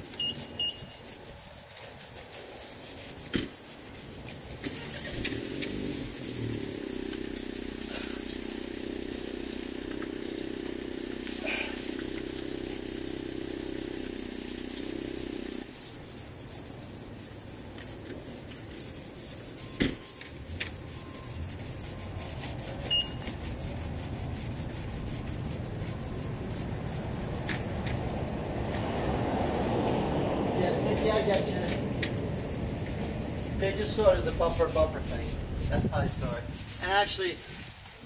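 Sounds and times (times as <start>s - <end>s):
hand sanding car panel: 0.0s - 38.0s
steady low hum: 3.1s - 38.0s.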